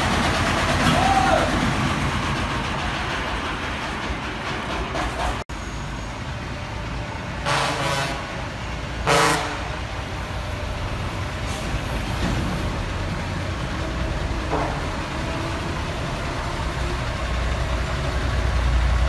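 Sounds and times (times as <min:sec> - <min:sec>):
heavy vehicle engine running: 0:00.0 - 0:19.0.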